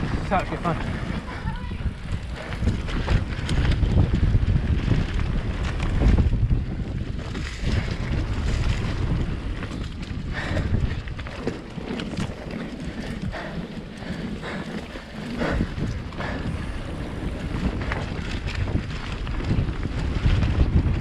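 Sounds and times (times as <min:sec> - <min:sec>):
tyres rumbling on dirt: 0:00.0 - 0:21.0
wind buffeting microphone: 0:00.0 - 0:21.0
bike clicks and knocks: 0:02.0 - 0:21.0.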